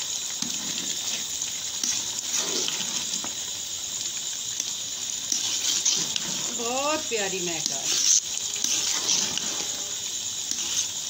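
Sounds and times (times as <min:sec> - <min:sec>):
rice boiling in a pot: 0:00.0 - 0:11.0.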